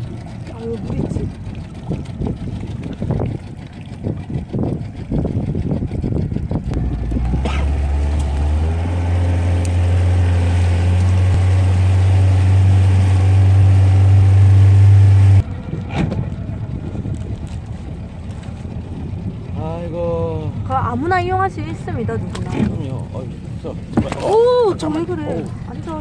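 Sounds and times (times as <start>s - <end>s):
boat engine low drone: 0.0s - 26.0s.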